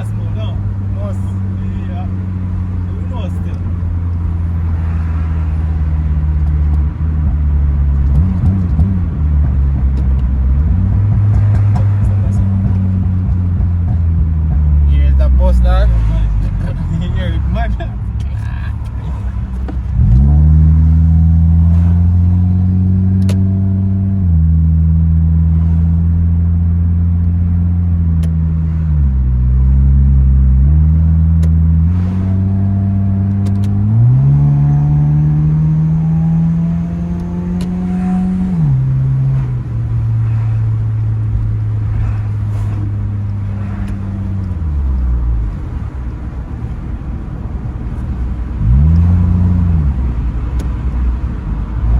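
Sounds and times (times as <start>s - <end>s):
car engine changing gears: 0.0s - 51.9s.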